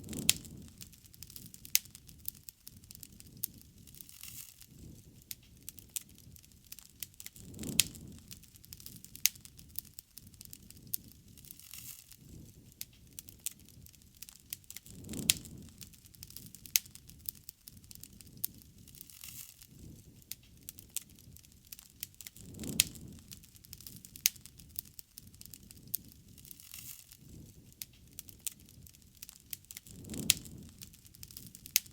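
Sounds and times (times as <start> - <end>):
fire whooshing: 0.0 - 31.9
wood fire crackling: 0.0 - 31.9.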